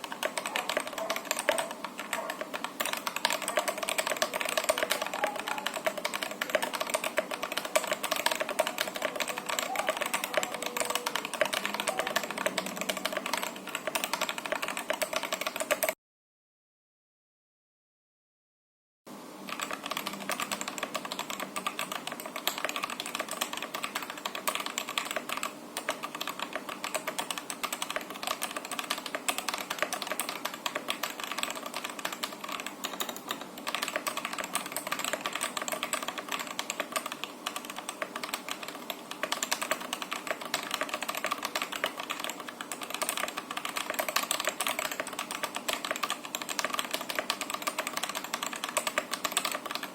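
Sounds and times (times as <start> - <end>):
fast typing on mechanical keyboard: 0.0 - 16.0, 19.5 - 49.9.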